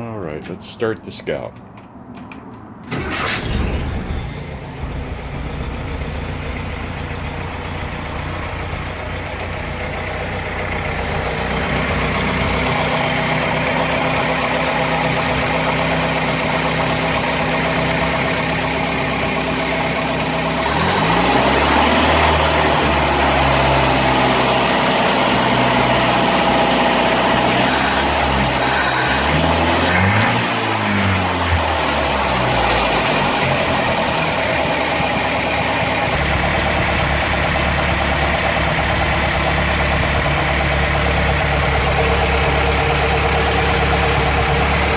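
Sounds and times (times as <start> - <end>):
four-cylinder engine idling: 3.0 - 29.7, 30.7 - 44.9.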